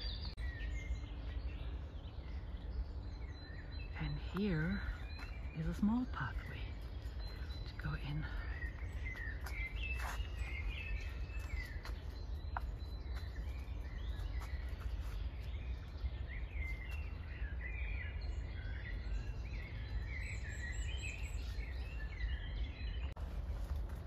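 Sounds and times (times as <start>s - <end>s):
songbirds singing and chirping: 0.0s - 24.0s
steady low rumble: 0.0s - 24.0s.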